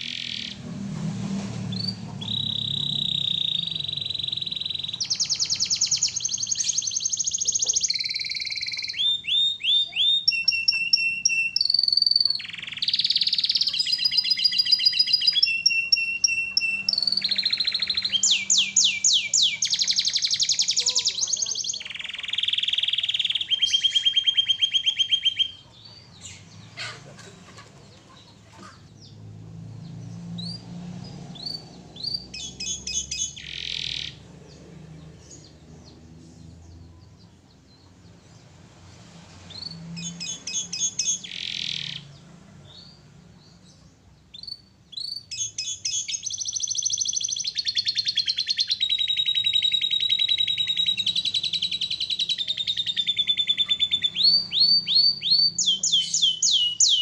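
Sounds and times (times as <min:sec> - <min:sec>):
canary singing trills: 0:00.0 - 0:00.6, 0:01.7 - 0:57.0.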